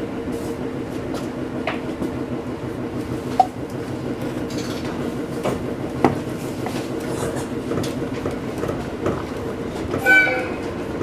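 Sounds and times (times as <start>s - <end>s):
train rumble with hum: 0.0s - 11.0s.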